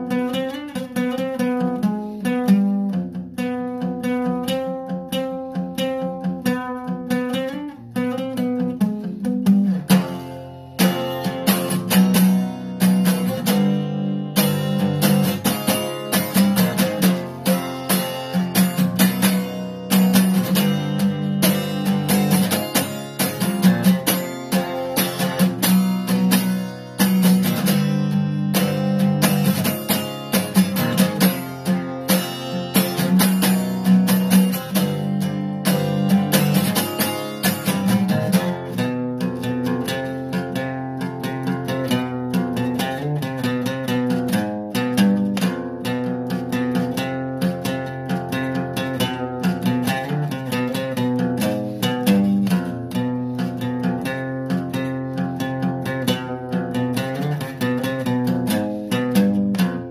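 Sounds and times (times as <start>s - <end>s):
acoustic guitar: 0.0s - 59.9s.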